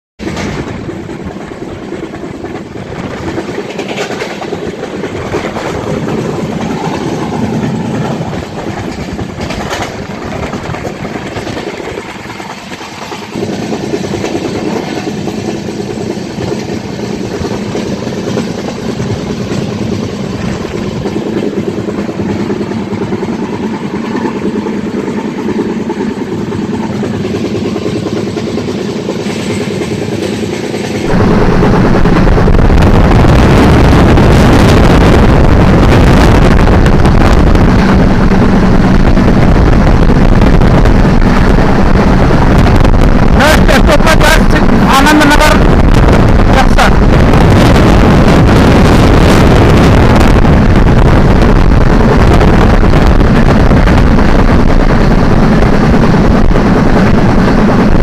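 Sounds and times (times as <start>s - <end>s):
train wheels rumbling on rails: 0.2s - 58.0s.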